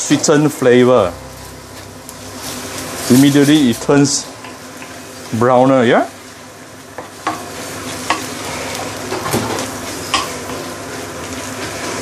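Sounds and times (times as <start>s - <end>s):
rice sizzling in a wok: 0.0s - 12.0s.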